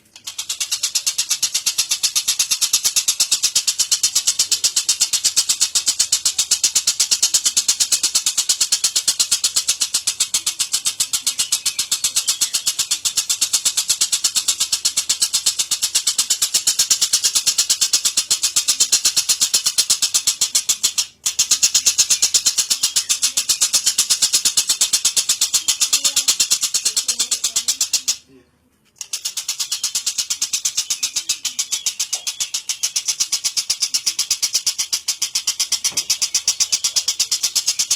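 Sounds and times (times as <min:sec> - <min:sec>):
lovebird chattering trill: 0:00.0 - 0:28.3, 0:29.0 - 0:37.9.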